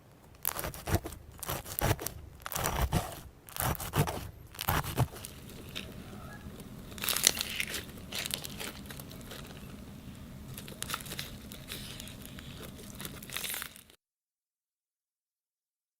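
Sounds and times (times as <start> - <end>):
low steady hum: 0.0 - 14.0
slime squeezed by hand crackling: 0.4 - 14.0.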